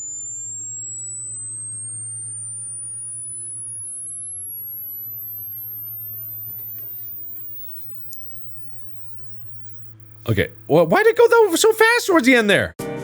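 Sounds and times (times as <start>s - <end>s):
low steady hum: 0.0s - 11.9s
rising sine test tone: 0.0s - 12.2s.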